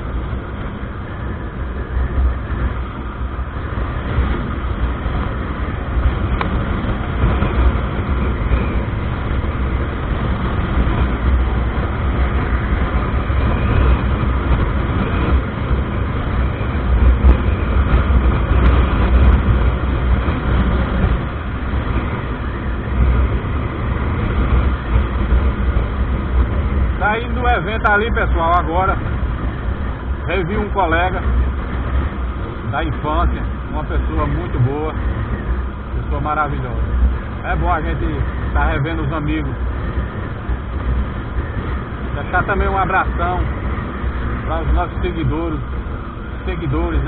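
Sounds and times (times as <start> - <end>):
motorcycle engine: 0.0 - 47.0
road noise: 0.0 - 47.0
wind rushing over microphone: 0.0 - 47.0.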